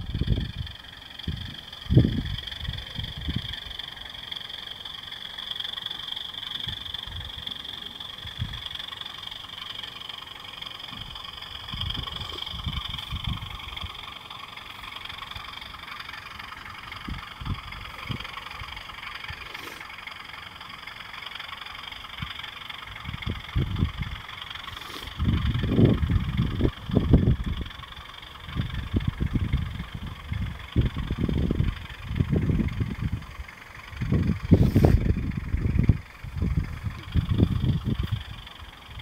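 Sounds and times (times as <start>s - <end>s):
model locomotive high-pitched drone: 0.0s - 39.0s.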